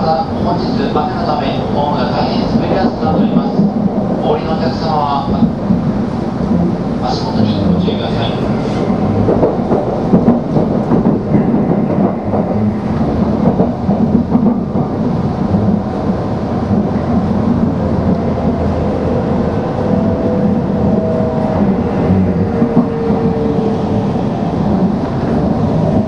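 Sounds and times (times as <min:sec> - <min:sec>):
train running noise inside car: 0:00.0 - 0:26.0.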